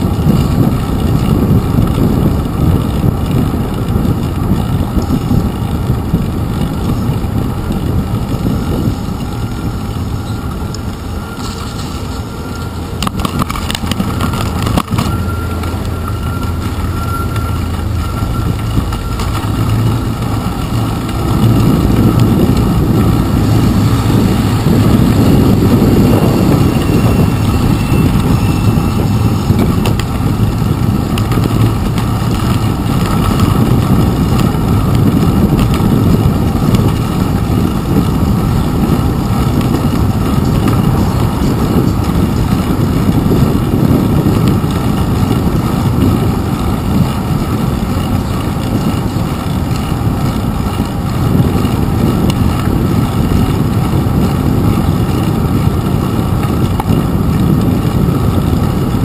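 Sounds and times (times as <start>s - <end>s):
muffled wind and road rumble: 0.0s - 59.0s.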